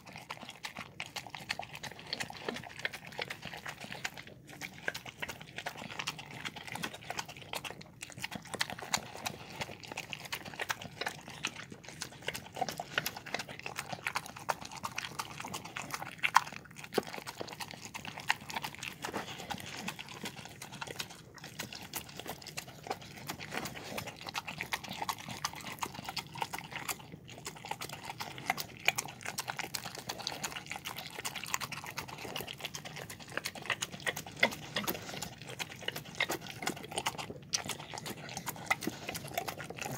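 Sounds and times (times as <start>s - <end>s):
dog chewing and licking: 0.0s - 39.9s.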